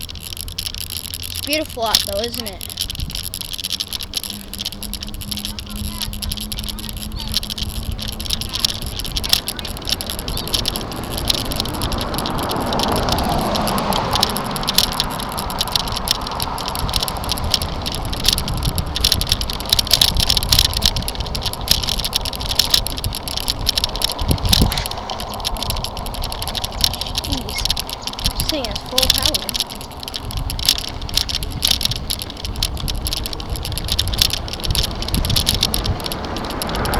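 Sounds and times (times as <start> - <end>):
bicycle rattling: 0.0 - 36.9
low road rumble: 0.0 - 36.9
wind rushing past microphone: 0.0 - 36.9.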